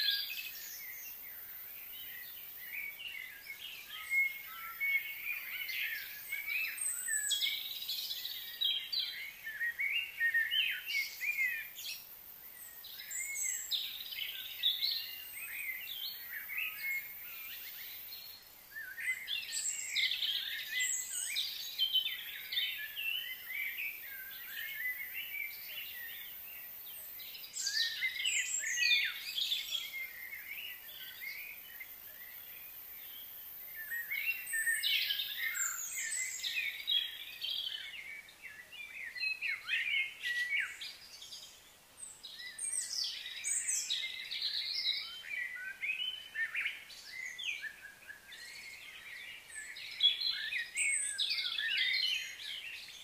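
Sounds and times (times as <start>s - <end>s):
wild birds chirping: 0.0s - 53.0s.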